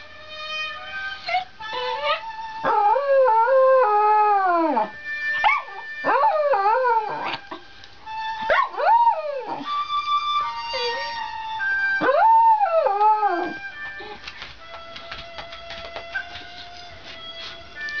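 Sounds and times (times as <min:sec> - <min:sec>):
music with long held notes: 0:00.0 - 0:18.0.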